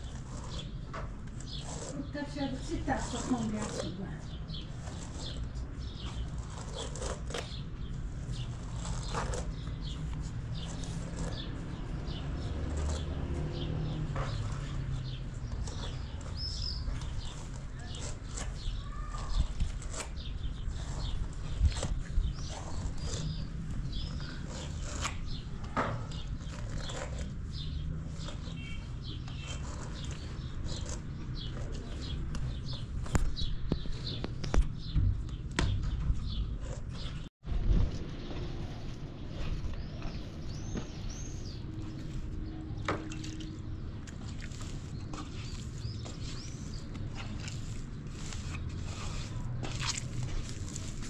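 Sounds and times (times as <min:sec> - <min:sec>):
small birds chirping: 0:00.0 - 0:37.3, 0:37.9 - 0:51.0.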